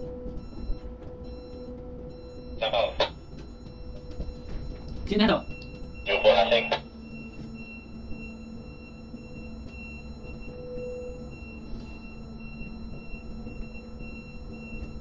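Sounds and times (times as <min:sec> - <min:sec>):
crane machinery hum: 0:00.0 - 0:15.0
pulsing high tone: 0:00.0 - 0:15.0.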